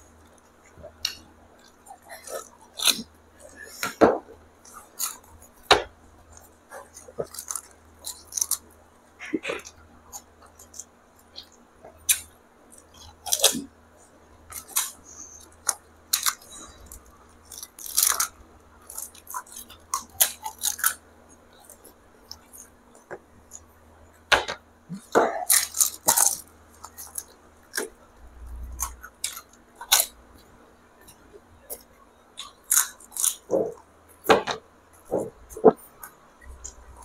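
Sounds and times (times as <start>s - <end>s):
crisp shells crunching when chewed: 0.1s - 4.0s, 4.6s - 13.7s, 14.5s - 23.7s, 24.9s - 33.9s.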